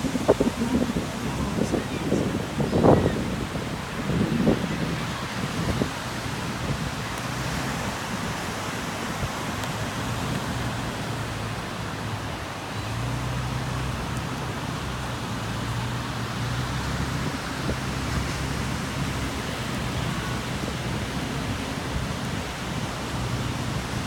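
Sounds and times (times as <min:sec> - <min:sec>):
surf breaking on beach: 0:00.0 - 0:24.0
wind: 0:00.0 - 0:24.0.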